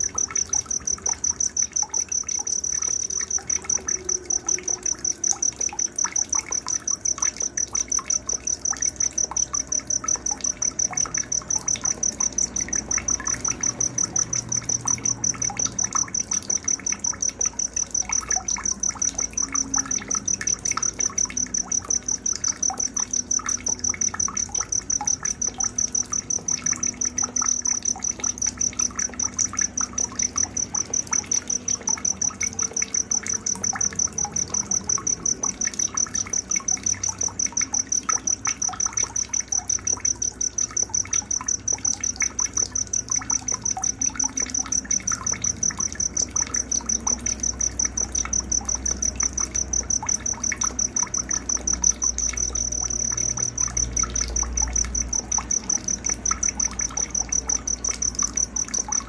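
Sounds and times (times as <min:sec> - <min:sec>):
cricket chirping: 0:00.0 - 0:59.0
small ticks: 0:00.0 - 0:59.0.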